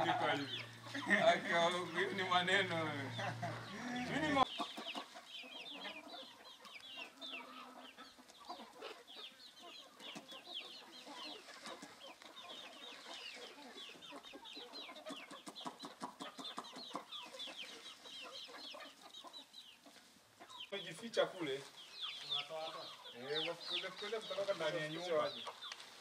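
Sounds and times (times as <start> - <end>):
chickens chirping: 0.0 - 26.0
soft chicken clucks: 0.0 - 26.0.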